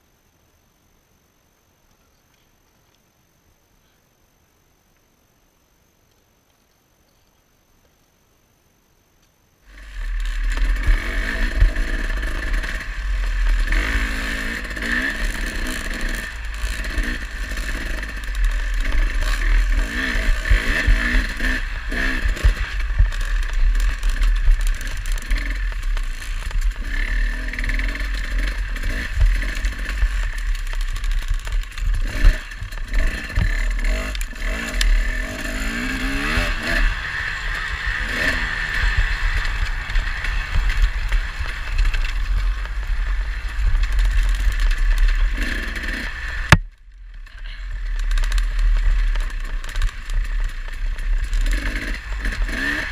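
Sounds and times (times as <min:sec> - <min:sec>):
dirt bike engine revving: 0:09.7 - 0:46.6, 0:47.4 - 0:52.9.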